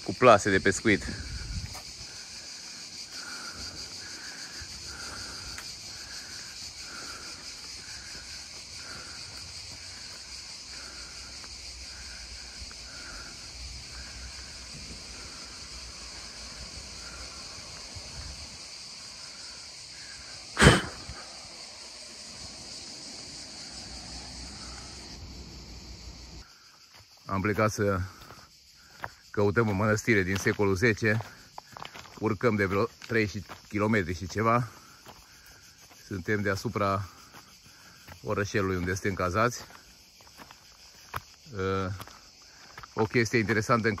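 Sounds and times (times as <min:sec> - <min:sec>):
cicadas buzzing: 0:00.0 - 0:44.0.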